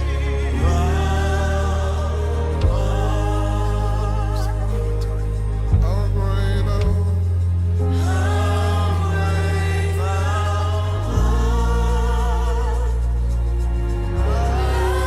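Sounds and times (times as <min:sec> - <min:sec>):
sustained low chords: 0:00.0 - 0:15.0
voices singing held notes: 0:00.0 - 0:15.0.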